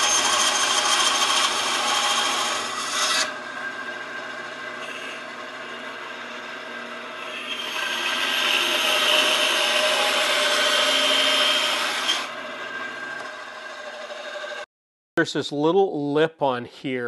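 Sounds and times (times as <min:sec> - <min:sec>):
bandsaw cutting wood: 0:00.0 - 0:14.7.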